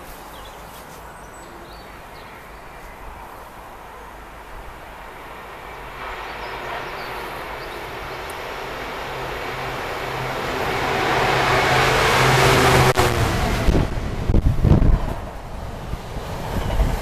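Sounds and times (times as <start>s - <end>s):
diesel locomotive engine: 0.0s - 17.0s
freight train rumble: 0.0s - 17.0s.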